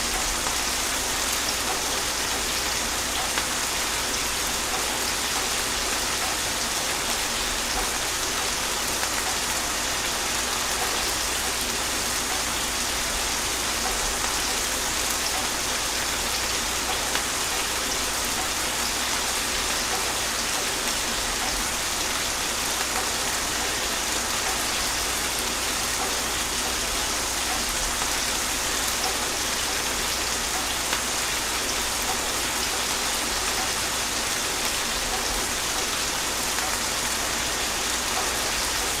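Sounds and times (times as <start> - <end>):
gentle rain patter: 0.0 - 39.0.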